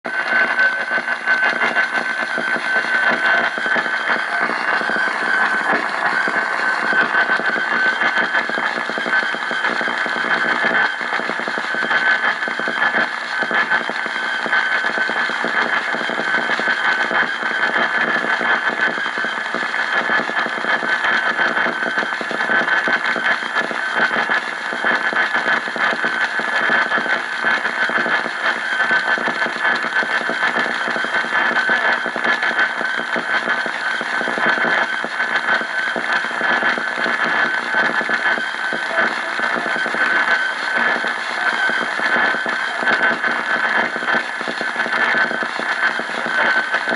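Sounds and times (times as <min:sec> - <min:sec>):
radio static crackling: 0:00.0 - 0:46.9
high-pitched radio whistle: 0:00.1 - 0:46.9.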